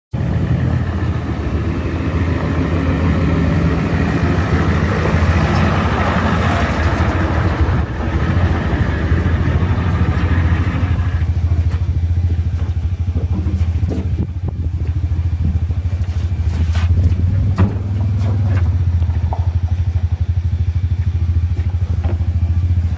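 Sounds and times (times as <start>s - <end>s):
diesel engine running: 0.1s - 22.9s.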